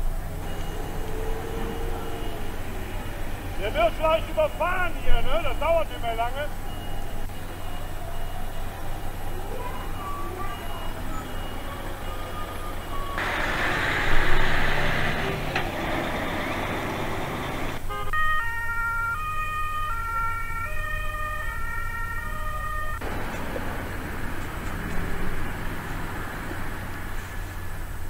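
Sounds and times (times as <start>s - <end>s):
vehicles rushing past: 0.0s - 17.9s, 23.0s - 28.0s
two-tone emergency siren: 0.0s - 27.6s.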